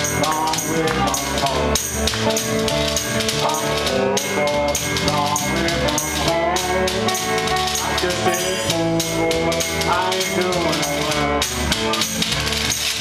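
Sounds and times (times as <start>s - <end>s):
bass guitar: 0.0s - 13.0s
electric guitar: 0.0s - 13.0s
steady percussion beat: 0.0s - 13.0s.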